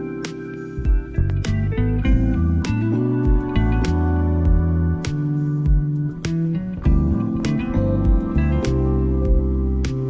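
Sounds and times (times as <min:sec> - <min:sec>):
gentle new-age instrumental music: 0:00.0 - 0:10.0
plucked guitar notes: 0:00.0 - 0:10.0.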